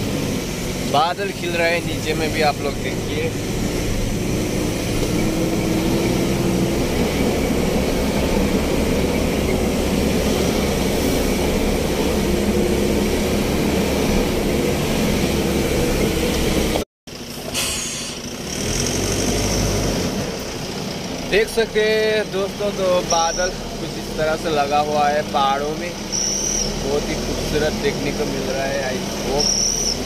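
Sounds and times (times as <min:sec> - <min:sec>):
truck engine running: 0:00.0 - 0:29.9.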